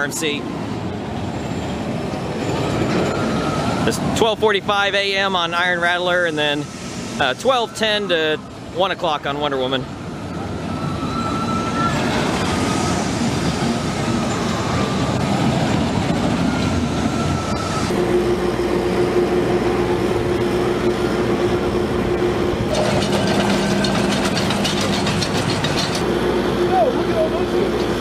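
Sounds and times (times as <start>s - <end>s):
rail vehicle rumble: 0.0s - 28.0s
steady engine hum: 0.0s - 28.0s.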